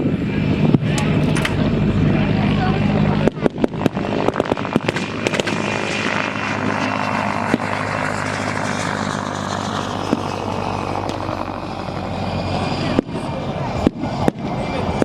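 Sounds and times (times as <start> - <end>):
propeller aircraft engine passing: 0.0 - 15.0.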